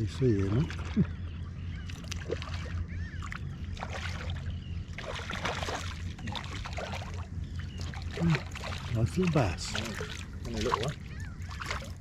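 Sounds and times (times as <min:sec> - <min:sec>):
steady low hum: 0:00.0 - 0:12.0
water splashing against boat: 0:00.0 - 0:12.0.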